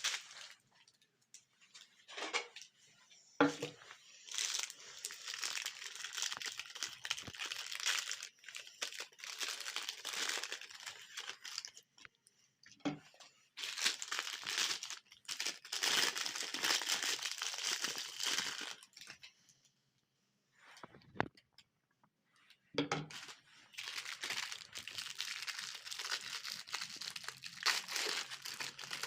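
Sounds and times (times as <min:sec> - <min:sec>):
plastic wrappers crinkling: 0:00.0 - 0:02.7, 0:03.5 - 0:12.1, 0:13.2 - 0:19.3, 0:23.1 - 0:29.0.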